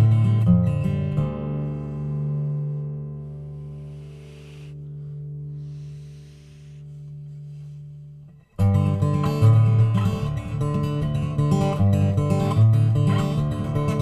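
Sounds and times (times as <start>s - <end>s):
acoustic guitar fingerpicking: 0.0s - 14.0s.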